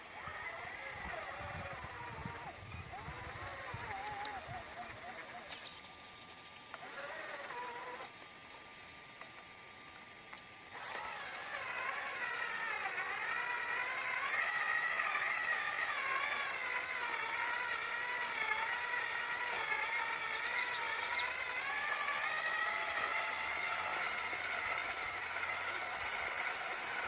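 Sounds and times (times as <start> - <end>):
model truck electric motor whining: 0.0 - 27.0.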